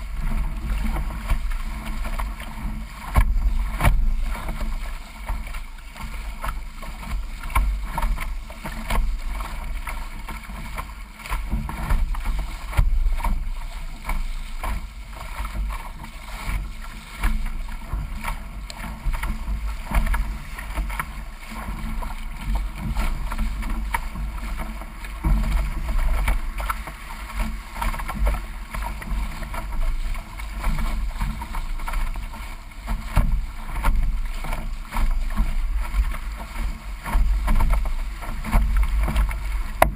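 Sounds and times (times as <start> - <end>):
water splashing along hull: 0.0 - 39.9.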